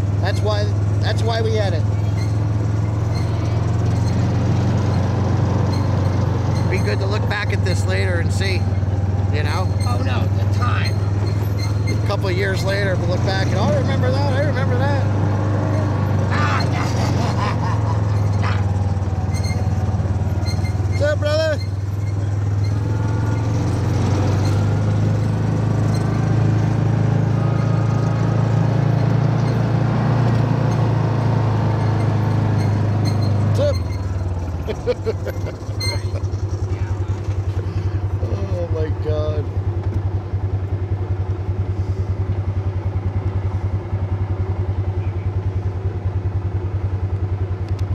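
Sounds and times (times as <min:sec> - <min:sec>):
vehicle engine humming: 0:00.0 - 0:47.9.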